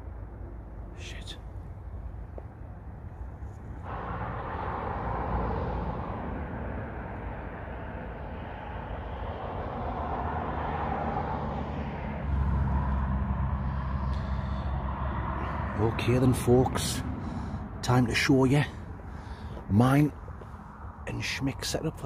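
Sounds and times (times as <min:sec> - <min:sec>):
distant engine rushing: 0:03.7 - 0:21.5.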